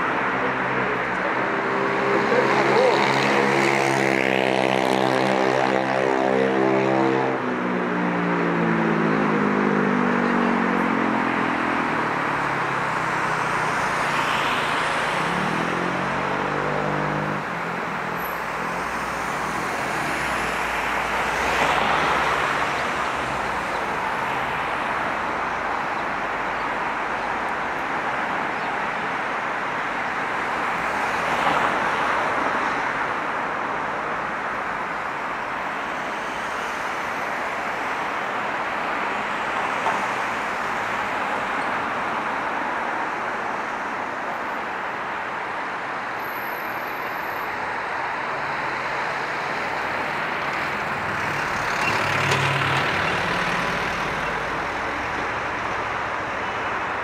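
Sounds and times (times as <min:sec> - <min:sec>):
road noise: 0:00.0 - 0:57.0
vehicles passing: 0:00.0 - 0:57.0.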